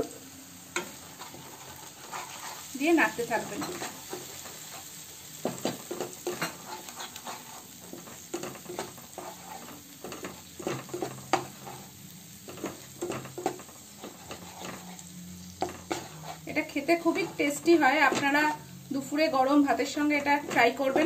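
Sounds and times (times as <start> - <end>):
oil sizzling: 0.0 - 21.0
wooden spatula scraping pan: 0.8 - 18.6.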